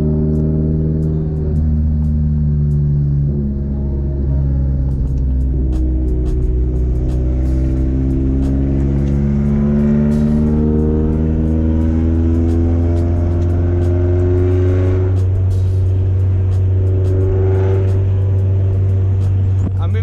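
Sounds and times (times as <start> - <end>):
car engine accelerating: 0.0 - 20.0
constant low drone: 0.0 - 20.0.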